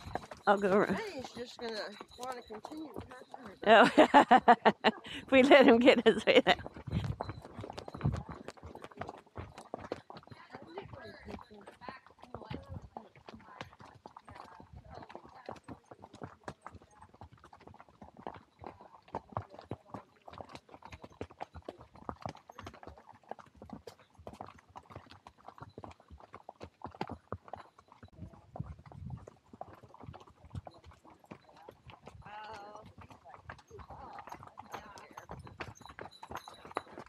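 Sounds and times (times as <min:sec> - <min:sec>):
horse hooves clopping on dirt: 0:00.0 - 0:37.0.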